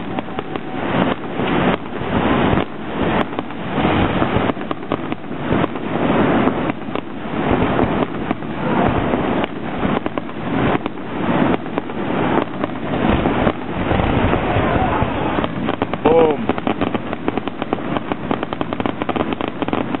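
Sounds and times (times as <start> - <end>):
fireworks bangs and crackle: 0.0 - 20.0.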